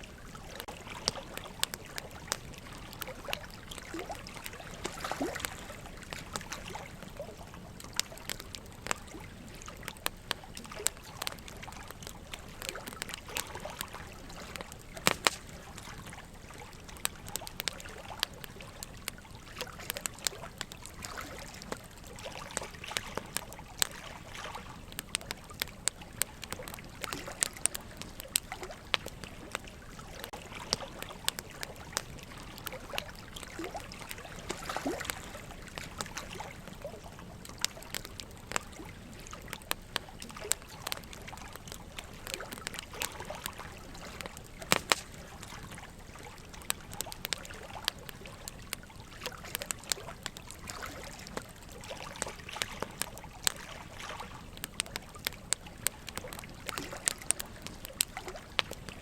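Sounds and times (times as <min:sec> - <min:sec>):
running water trickling: 0:00.0 - 0:59.0
wood fire crackling: 0:00.0 - 0:59.0.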